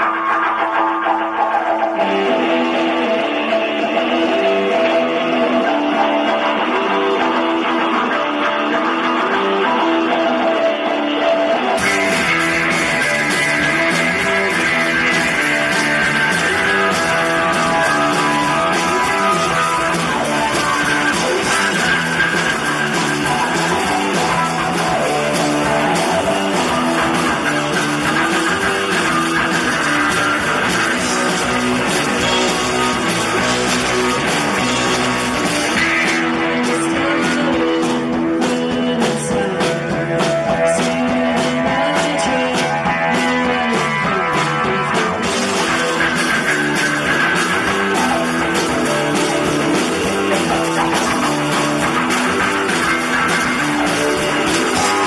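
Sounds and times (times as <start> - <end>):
bass line: 0.0 - 55.0
drums and cymbals: 0.0 - 55.0
strummed electric guitars: 0.0 - 55.0.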